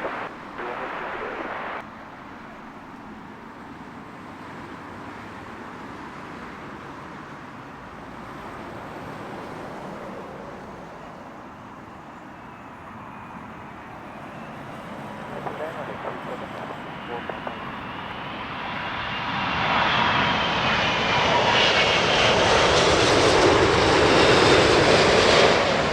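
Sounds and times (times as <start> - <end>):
distant engines and traffic rumble: 0.0 - 25.9.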